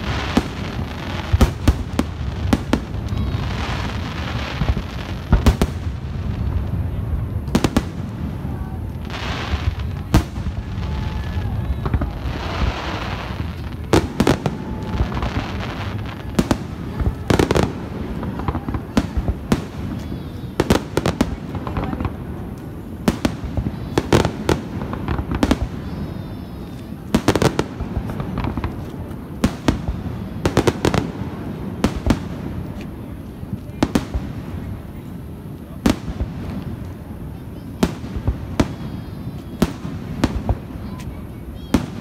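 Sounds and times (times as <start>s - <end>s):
fireworks bangs: 0.0s - 42.0s.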